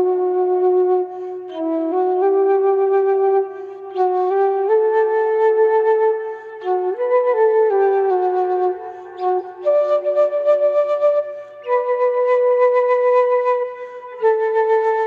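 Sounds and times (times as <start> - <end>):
solo flute playing slow melody: 0.0 - 15.0.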